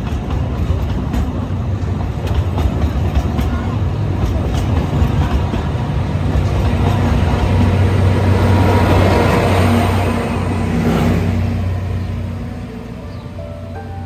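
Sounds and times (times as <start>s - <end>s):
train engine humming: 0.0s - 14.0s.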